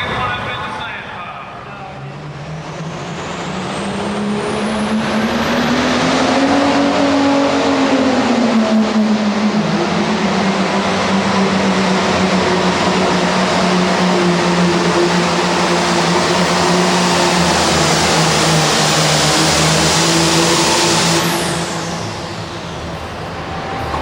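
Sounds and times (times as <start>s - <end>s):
tractor diesel engine at full throttle: 2.6s - 24.0s.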